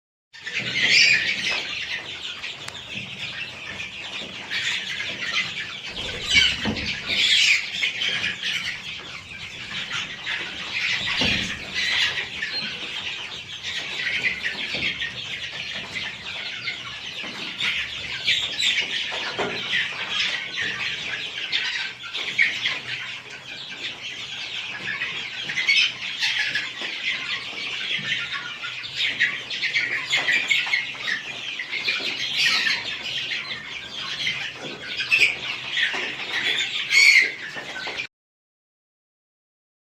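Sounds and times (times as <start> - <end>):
chicks peeping: 0.4 - 38.1.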